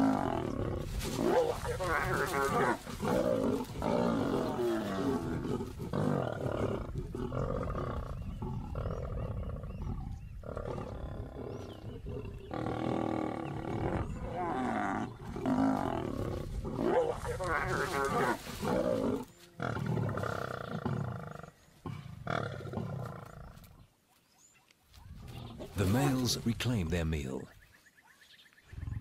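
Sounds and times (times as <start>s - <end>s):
lions growling and snarling: 0.0s - 23.9s, 25.1s - 26.2s.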